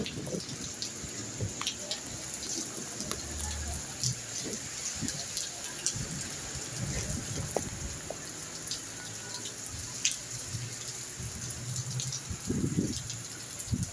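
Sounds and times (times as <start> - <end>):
rain on a roof: 0.0 - 13.9.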